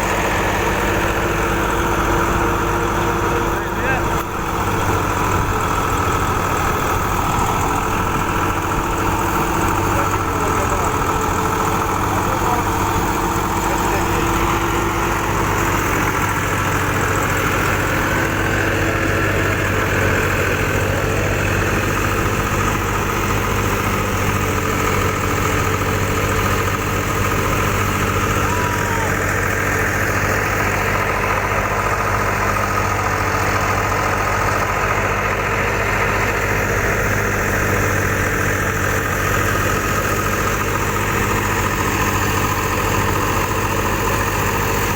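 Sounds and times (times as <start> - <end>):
thresher drum running: 0.0 - 44.9
tractor diesel engine running: 0.0 - 44.9.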